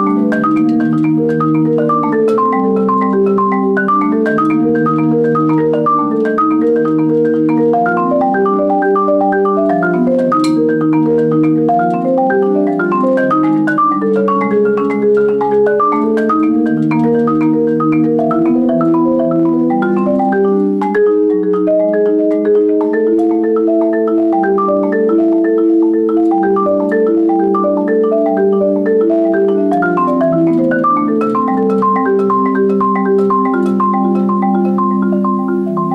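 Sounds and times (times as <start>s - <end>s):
marimba playing: 0.0s - 35.9s.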